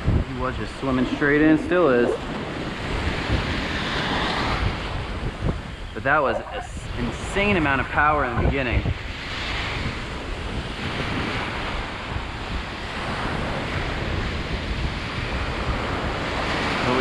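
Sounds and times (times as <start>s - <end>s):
ocean surf washing: 0.0s - 17.0s
wind on microphone: 0.0s - 17.0s.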